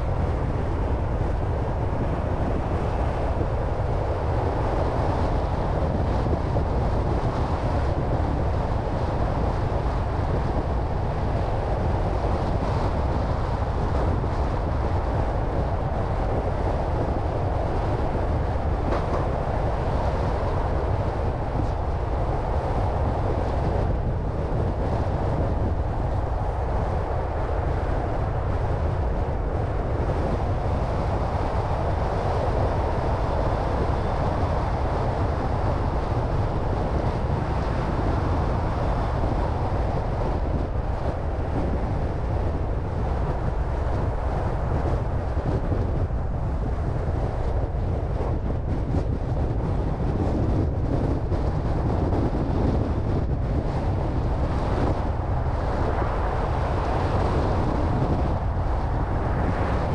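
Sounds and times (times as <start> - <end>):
wind rushing past: 0.0 - 59.9.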